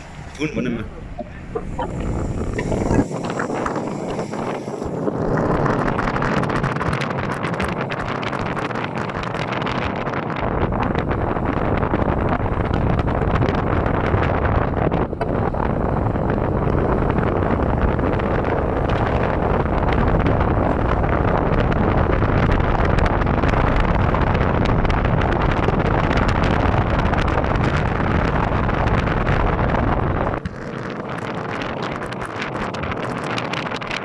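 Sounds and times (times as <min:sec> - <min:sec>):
vehicle rumble: 0:00.0 - 0:34.0
wind buffeting microphone: 0:00.0 - 0:34.0.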